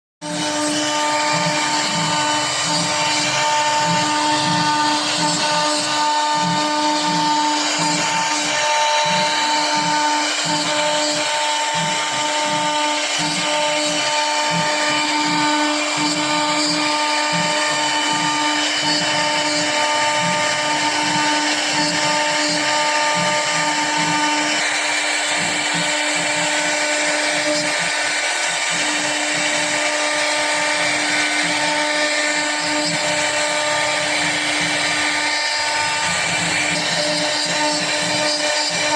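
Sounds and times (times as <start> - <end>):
hiss of cutting: 0.2 - 38.9
router spindle whine: 0.2 - 38.9.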